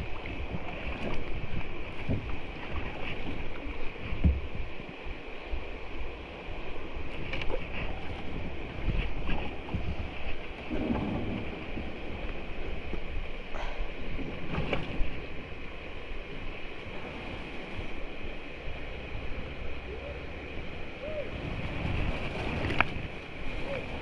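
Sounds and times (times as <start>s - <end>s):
creek water rushing: 0.0s - 24.0s
wind buffeting microphone: 0.0s - 24.0s.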